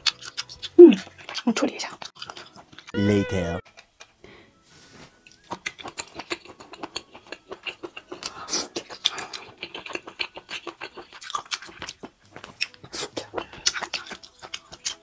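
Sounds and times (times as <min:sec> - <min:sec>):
wet chewing and lip-smacking: 0:00.0 - 0:03.0, 0:05.2 - 0:15.0.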